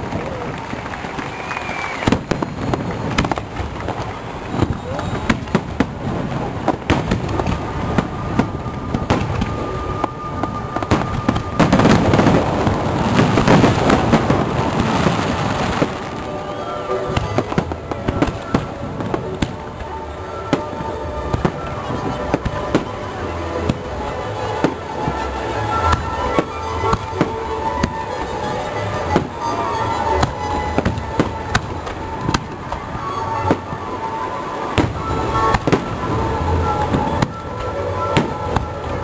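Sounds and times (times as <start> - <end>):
fireworks crackling barrage: 0.0 - 39.0
fireworks exploding: 0.0 - 39.0.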